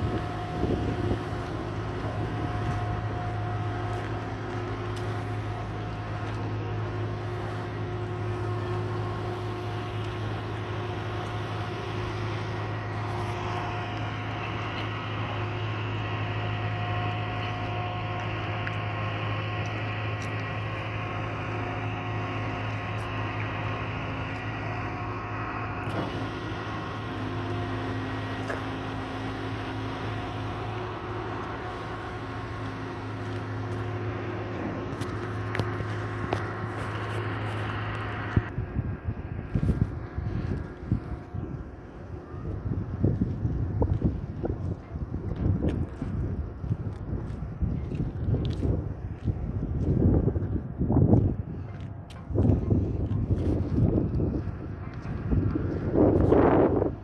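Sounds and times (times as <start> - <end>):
low machine drone: 0.0 - 57.0.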